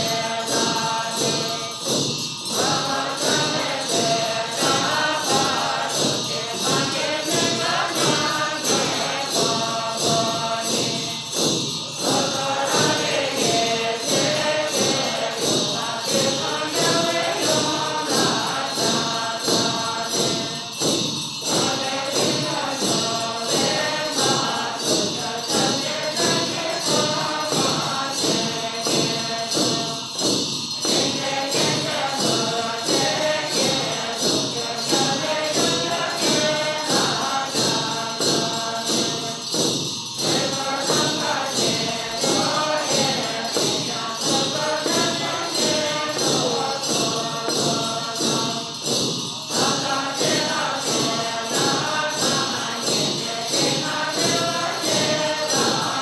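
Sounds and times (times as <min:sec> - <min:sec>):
group chanting in unison: 0:00.0 - 0:56.0
hand percussion beat: 0:00.0 - 0:56.0
jingling bells: 0:00.0 - 0:56.0.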